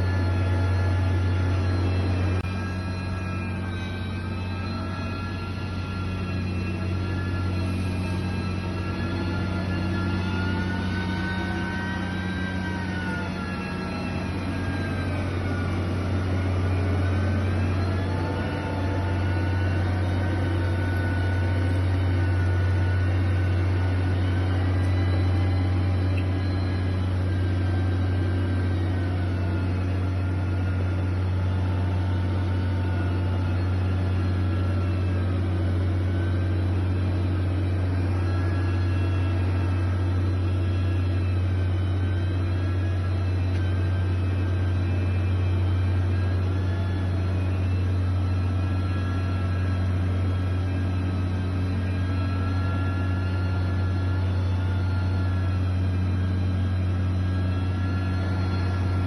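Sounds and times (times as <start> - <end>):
heavy machine engine running: 0.0 - 59.0
high engine whine: 0.0 - 59.0.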